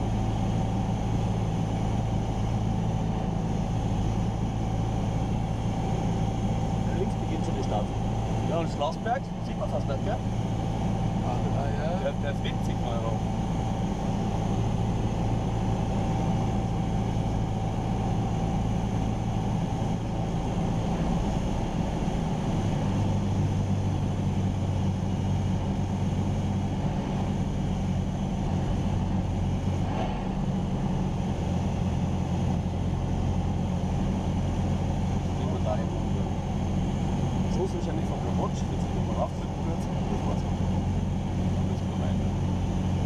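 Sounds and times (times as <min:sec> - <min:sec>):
airplane engine and propeller droning: 0:00.0 - 0:43.0.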